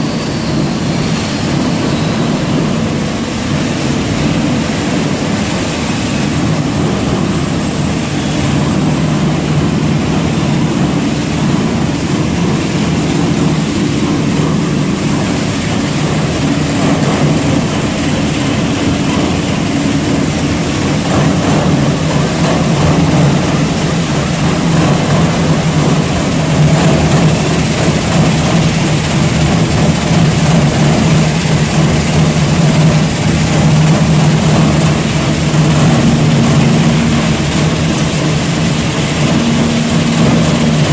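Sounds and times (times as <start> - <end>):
shredder machine hum: 0.0 - 40.9.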